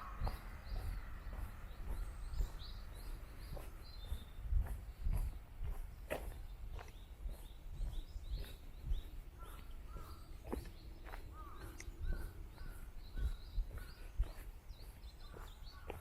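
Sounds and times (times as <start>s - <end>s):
birds chirping: 0.0s - 16.0s
footsteps on a path: 0.0s - 16.0s.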